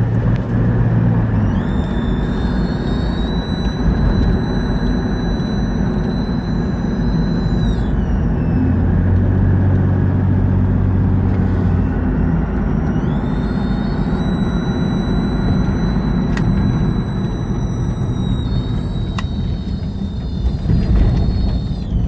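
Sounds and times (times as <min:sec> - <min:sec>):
car engine hum: 0:00.0 - 0:22.0
high-pitched engine whistle: 0:01.3 - 0:09.2, 0:11.4 - 0:22.0.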